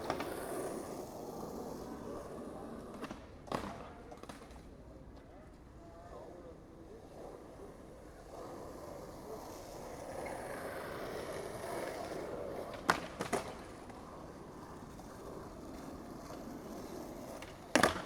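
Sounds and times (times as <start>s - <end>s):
skateboard clacks: 0.0s - 18.0s
skateboard wheels rolling on concrete: 0.0s - 18.0s.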